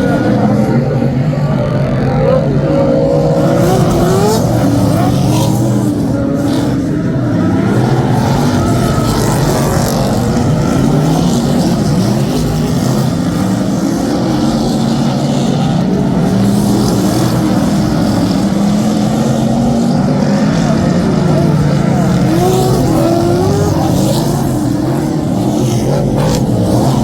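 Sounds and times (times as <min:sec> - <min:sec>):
race car engines accelerating: 0:00.0 - 0:27.0.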